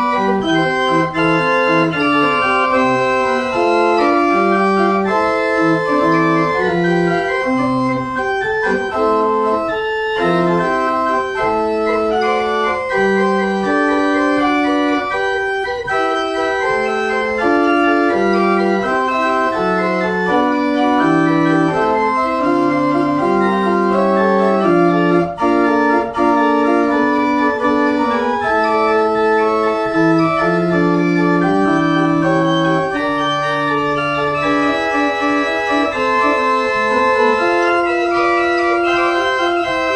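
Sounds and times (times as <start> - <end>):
pipe organ playing: 0.0 - 39.9.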